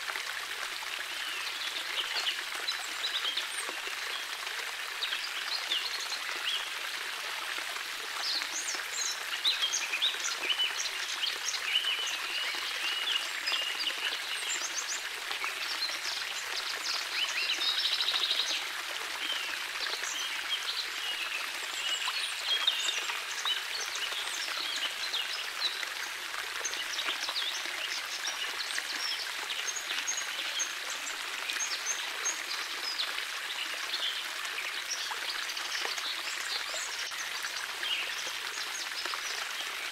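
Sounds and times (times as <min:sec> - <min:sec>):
water trickling over pebbles: 0:00.0 - 0:39.9.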